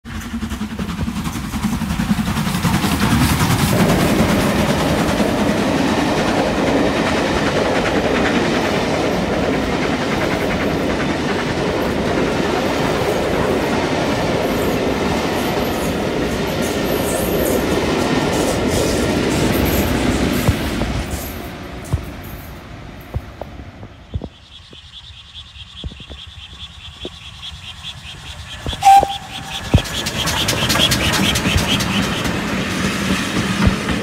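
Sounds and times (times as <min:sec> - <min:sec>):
steam locomotive passing: 0:00.0 - 0:34.0
train wheels rumbling on rails: 0:00.0 - 0:34.0.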